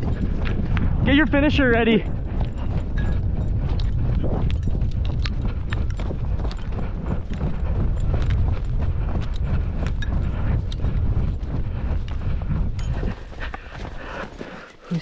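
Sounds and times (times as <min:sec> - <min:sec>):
gear clicking and knocking: 0:00.0 - 0:14.0.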